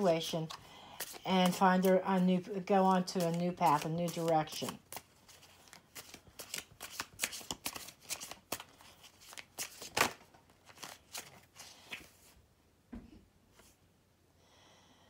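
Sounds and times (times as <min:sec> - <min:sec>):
cards being shuffled: 0:00.0 - 0:12.3.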